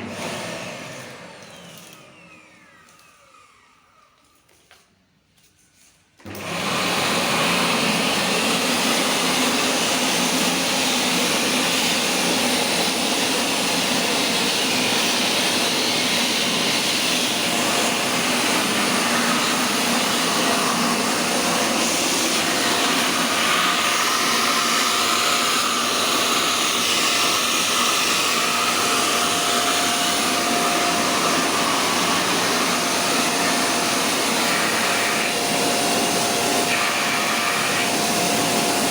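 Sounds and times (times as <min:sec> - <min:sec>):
vacuum cleaner running: 0:00.0 - 0:04.8, 0:06.2 - 0:38.9.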